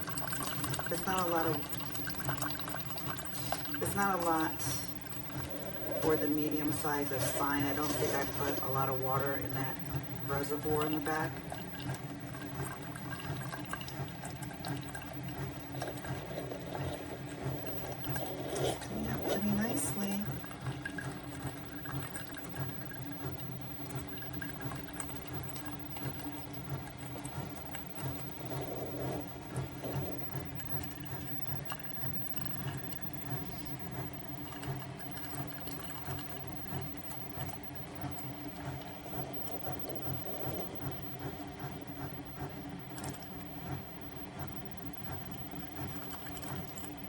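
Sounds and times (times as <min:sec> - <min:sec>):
coffee maker pump buzzing: 0:00.0 - 0:47.0
liquid trickling into cup: 0:00.0 - 0:47.0.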